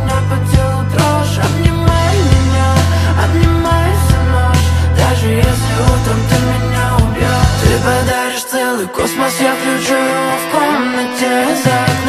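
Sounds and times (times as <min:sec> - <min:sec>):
slowed reverb-heavy pop song: 0:00.0 - 0:12.0.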